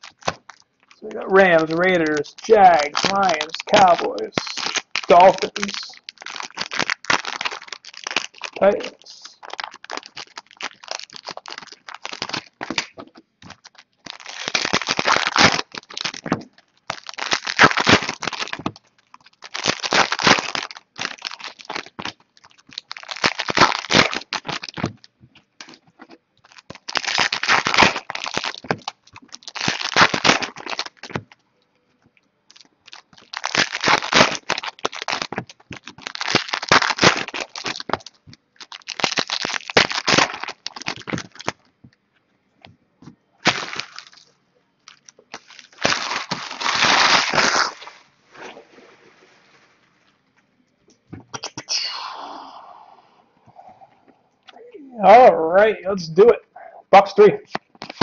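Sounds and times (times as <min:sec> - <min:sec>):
foil wrappers crinkling and tearing: 0:00.0 - 0:31.4, 0:32.5 - 0:41.7, 0:43.4 - 0:50.2, 0:57.4 - 0:58.0.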